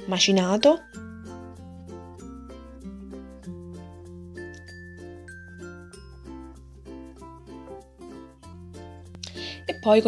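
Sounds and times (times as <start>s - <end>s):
light melody over bass notes: 0.0s - 10.0s.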